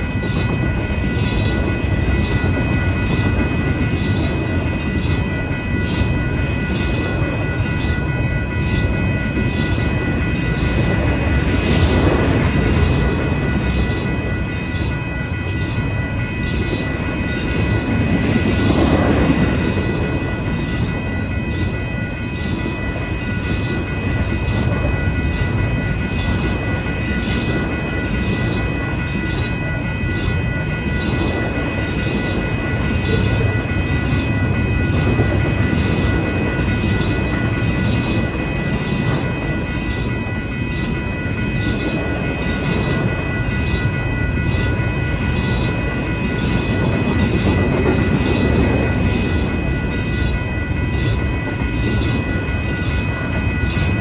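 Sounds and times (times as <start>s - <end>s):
crossing bell ringing: 0.0s - 54.0s
train wheels clattering on rail: 0.0s - 54.0s.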